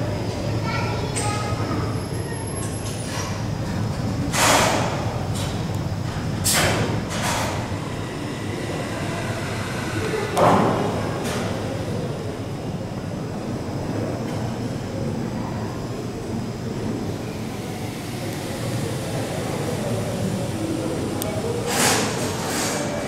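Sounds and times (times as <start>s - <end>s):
murmur of voices: 0.0s - 6.0s, 7.6s - 23.0s.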